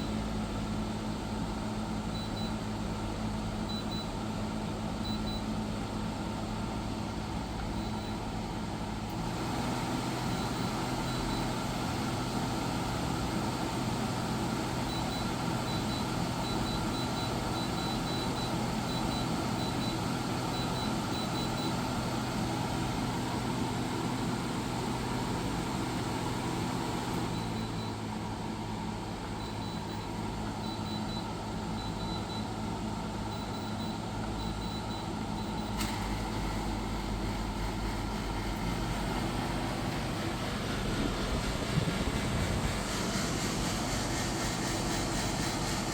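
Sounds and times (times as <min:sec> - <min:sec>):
air conditioner humming: 0:00.0 - 0:45.9.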